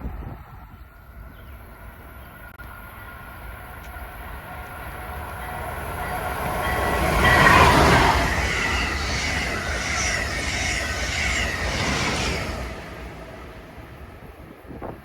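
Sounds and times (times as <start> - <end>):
train passing with wheel noise: 0.0 - 15.0.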